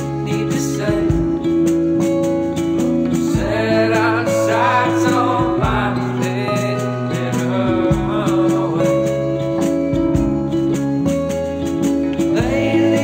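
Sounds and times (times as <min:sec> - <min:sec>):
bass: 0:00.0 - 0:13.0
drums: 0:00.0 - 0:13.0
guitar: 0:00.0 - 0:13.0
lead melody with vibrato: 0:00.0 - 0:13.0.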